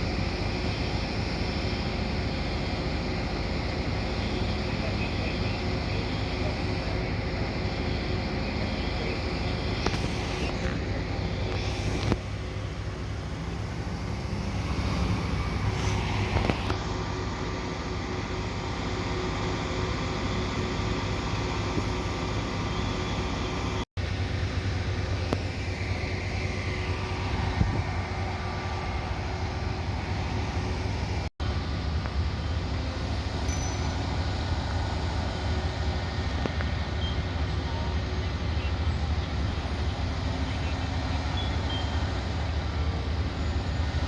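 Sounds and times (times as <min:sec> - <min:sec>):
diesel engine rumbling: 0:00.0 - 0:44.0.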